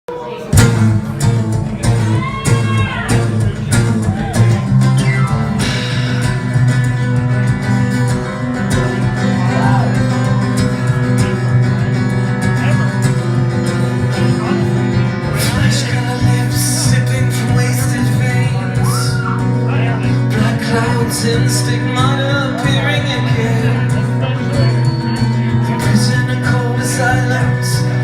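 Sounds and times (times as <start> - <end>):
acoustic guitar strumming chords: 0.4 - 28.0.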